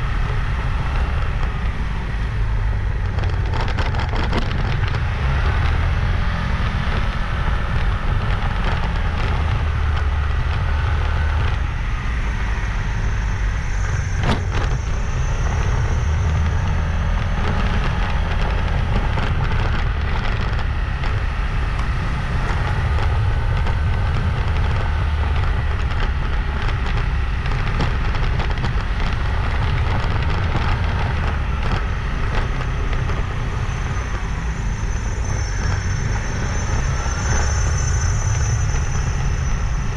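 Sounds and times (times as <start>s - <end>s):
motorbike engine and road noise: 0.0s - 39.9s
wind buffeting microphone: 0.0s - 39.9s.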